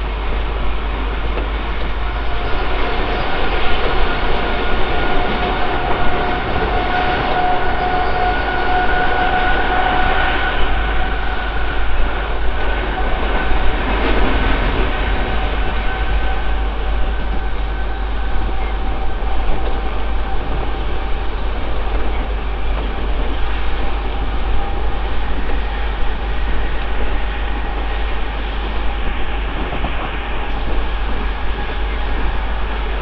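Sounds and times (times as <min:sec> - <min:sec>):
train wheels rushing on rail: 0:00.0 - 0:33.0
wind over microphone: 0:00.0 - 0:33.0.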